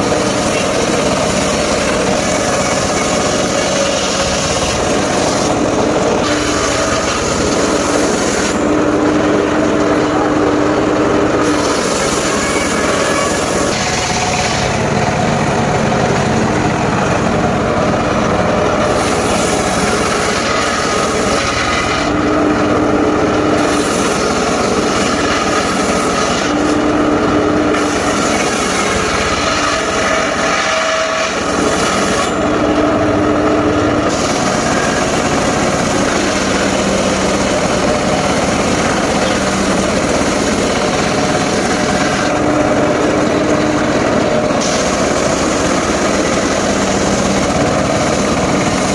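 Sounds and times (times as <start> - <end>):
circular saw cutting wood: 0.0 - 48.9.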